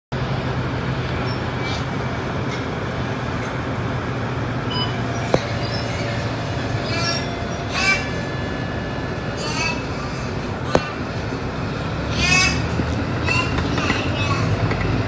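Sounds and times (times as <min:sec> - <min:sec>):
bus engine drone: 0:00.1 - 0:15.0.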